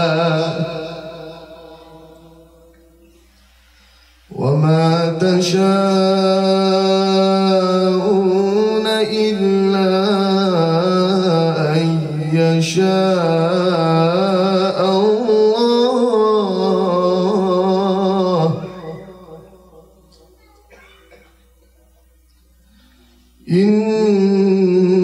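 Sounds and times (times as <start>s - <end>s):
man reciting melodically: 0.0s - 3.1s, 4.3s - 20.2s, 23.4s - 25.0s.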